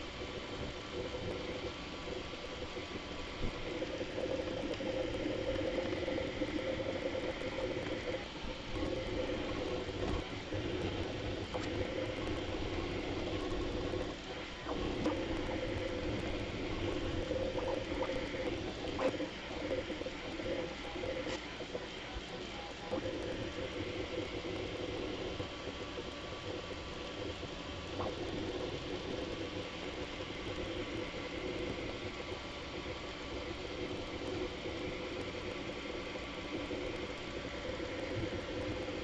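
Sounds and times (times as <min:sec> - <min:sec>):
printer motors whirring: 0:00.0 - 0:39.0.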